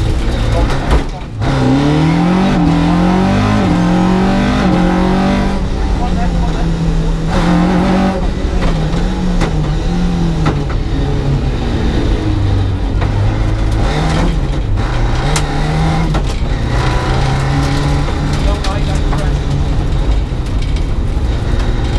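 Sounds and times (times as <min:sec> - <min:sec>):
rally car engine downshifting: 0:00.0 - 0:21.9.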